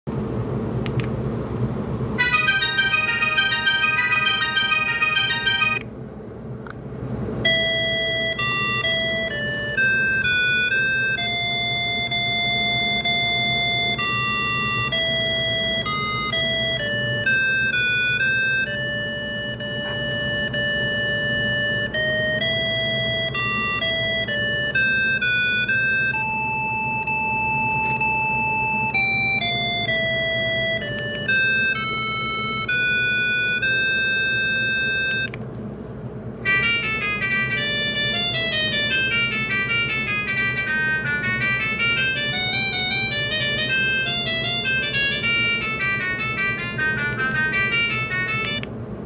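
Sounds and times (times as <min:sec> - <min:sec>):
ringtone with rising note runs: 0:02.0 - 0:06.0, 0:07.4 - 0:35.4, 0:36.4 - 0:49.0
synthesized phone ringtone melody: 0:02.2 - 0:05.9, 0:07.4 - 0:35.4, 0:36.4 - 0:48.8.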